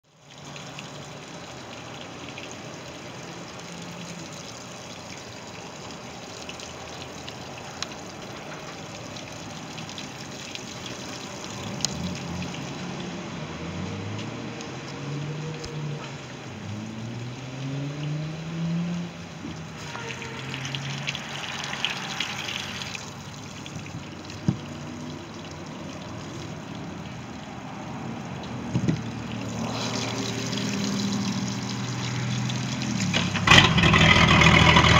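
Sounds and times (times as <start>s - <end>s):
water splashing onto pavement: 0.0s - 34.9s.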